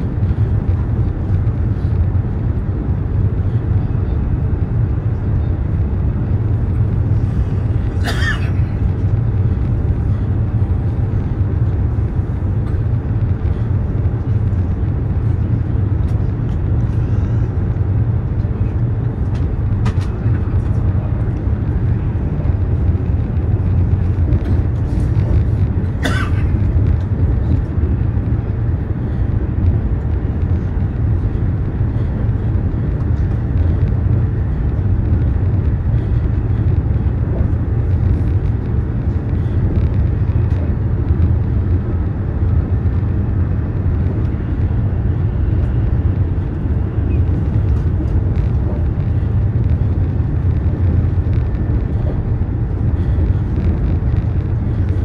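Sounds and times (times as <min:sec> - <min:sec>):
train rumbling inside cabin: 0:00.0 - 0:55.0.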